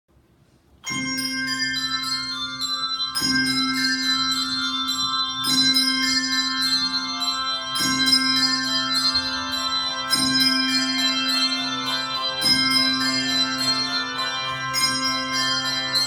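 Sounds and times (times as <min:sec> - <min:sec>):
handbells playing a tune: 0:00.8 - 0:16.0.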